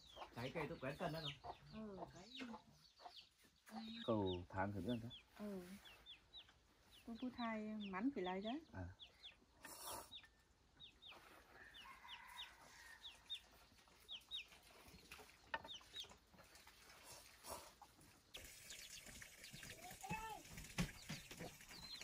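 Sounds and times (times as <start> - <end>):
chicken peeping: 0.0 - 7.9, 8.7 - 22.0.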